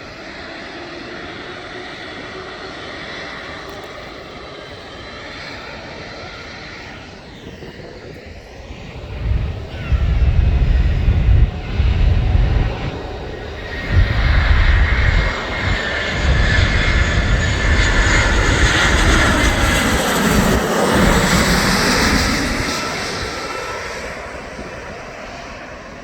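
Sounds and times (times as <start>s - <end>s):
jet engines passing: 0.0s - 26.0s.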